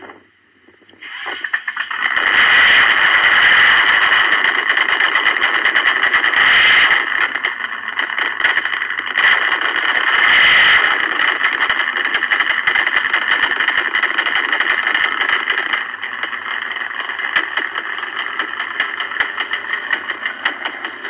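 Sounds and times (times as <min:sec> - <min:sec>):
simulated truck engine idling: 0:01.4 - 0:21.0.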